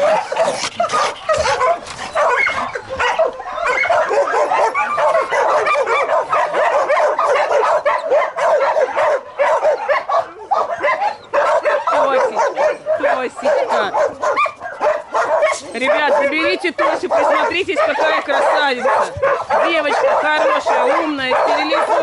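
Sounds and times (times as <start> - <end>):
many dogs barking and yipping: 0.0 - 22.0.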